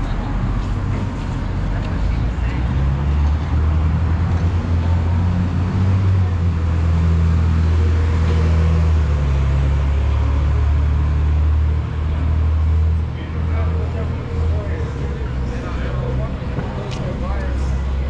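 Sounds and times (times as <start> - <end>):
large vehicle engine drone: 0.0 - 18.0
road traffic: 0.0 - 18.0.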